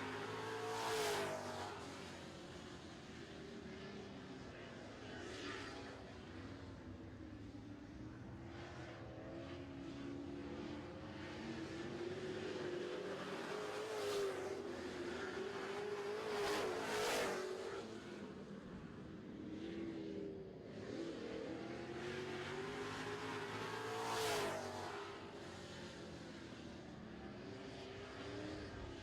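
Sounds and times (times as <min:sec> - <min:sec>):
racing truck engines: 0:00.0 - 0:07.5, 0:08.4 - 0:29.0.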